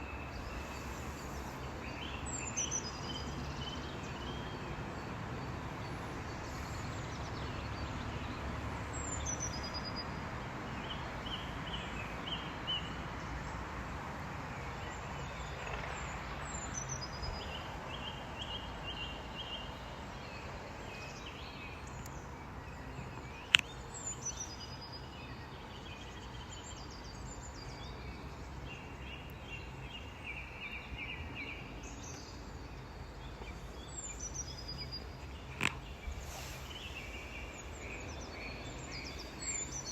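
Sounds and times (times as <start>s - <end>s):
small birds chirping: 0.0s - 13.0s, 14.8s - 39.9s.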